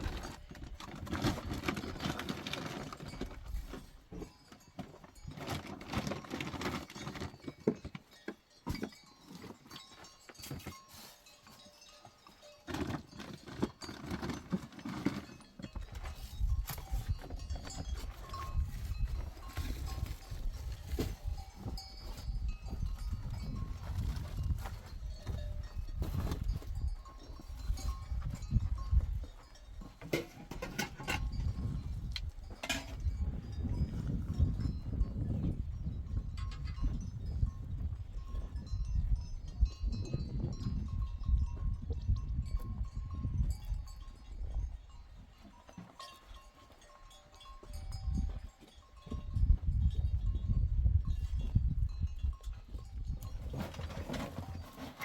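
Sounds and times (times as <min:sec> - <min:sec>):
livestock bells ringing: 0:04.1 - 0:53.5.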